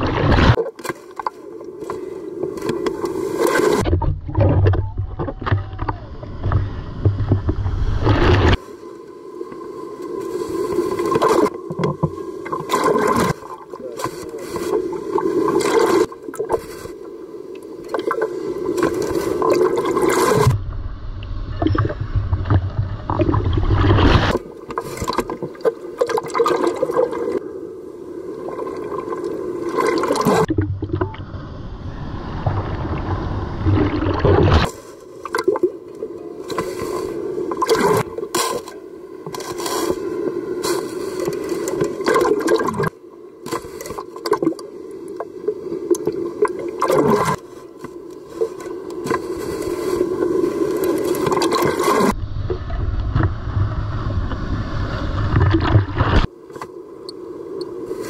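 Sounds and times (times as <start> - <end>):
water washing against camera: 0.0 - 8.7, 9.4 - 27.4, 28.4 - 31.2, 32.4 - 56.7
waves breaking: 0.0 - 20.7, 21.4 - 58.0.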